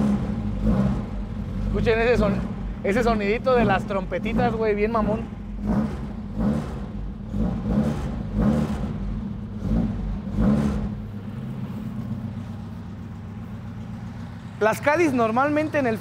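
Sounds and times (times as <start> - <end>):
car engine idling: 0.0 - 16.0
car engine throttle blips: 0.0 - 16.0.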